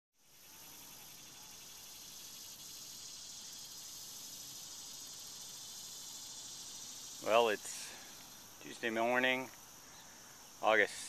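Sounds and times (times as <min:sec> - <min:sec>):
insects trilling: 0:00.2 - 0:11.0.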